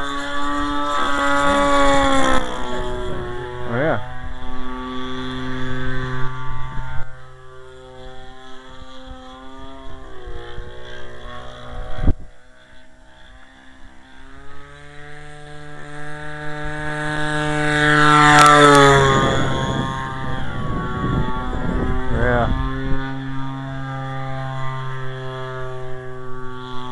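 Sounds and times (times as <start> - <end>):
model plane engine flying by: 0.0 - 26.9
wind buffeting microphone: 0.2 - 12.4, 16.2 - 26.6.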